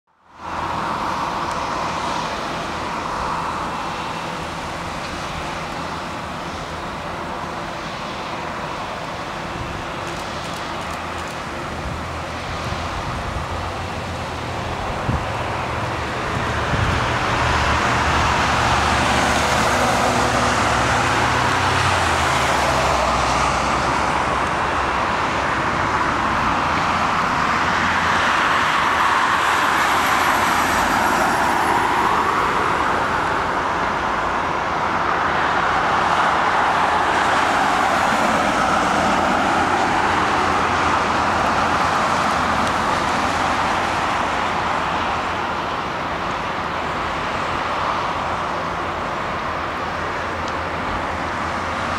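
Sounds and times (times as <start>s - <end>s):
vehicles passing: 0.2s - 51.9s.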